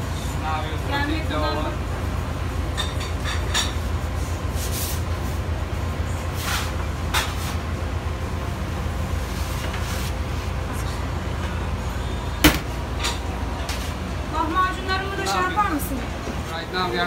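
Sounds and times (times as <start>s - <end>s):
kitchen equipment hum: 0.0s - 17.0s.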